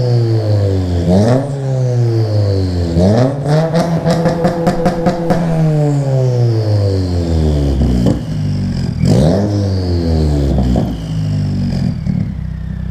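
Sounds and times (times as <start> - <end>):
car engine revving and idling: 0.0 - 12.9
exhaust crackles: 0.0 - 12.9.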